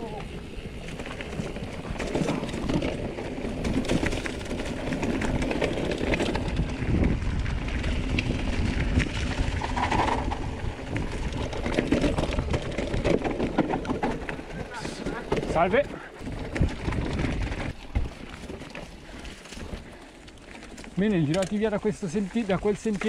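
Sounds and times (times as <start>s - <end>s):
bike knocking and rattling: 0.0s - 23.0s
wind rumbling on microphone: 0.0s - 23.0s.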